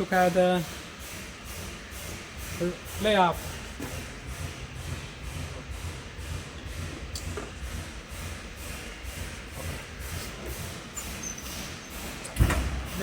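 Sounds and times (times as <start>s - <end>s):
low background rumble: 1.7s - 13.0s.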